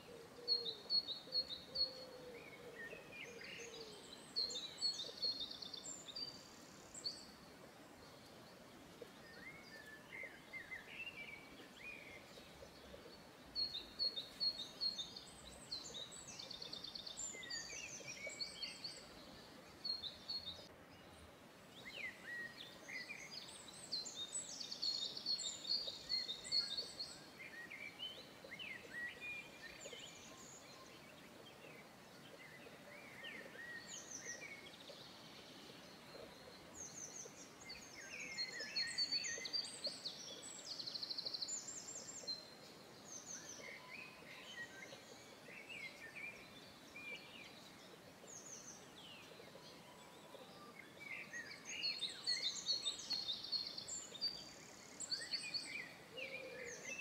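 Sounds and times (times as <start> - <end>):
faint steady hiss: 0.0 - 57.0
songbirds chirping and trilling: 0.0 - 57.0.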